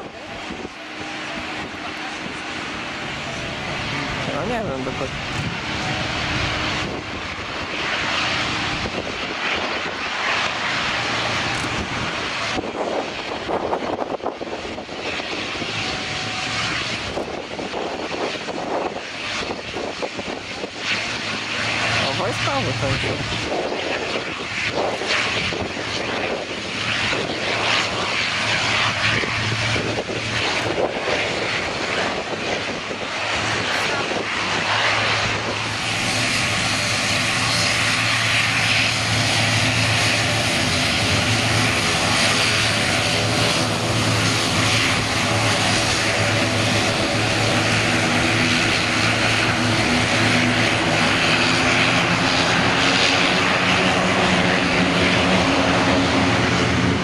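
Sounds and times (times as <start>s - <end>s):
turboprop engines droning: 0.0s - 57.0s.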